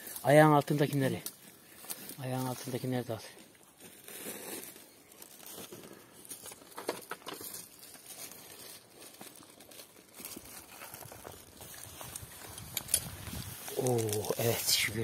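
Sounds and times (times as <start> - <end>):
plastic bags crinkling: 0.0 - 12.7.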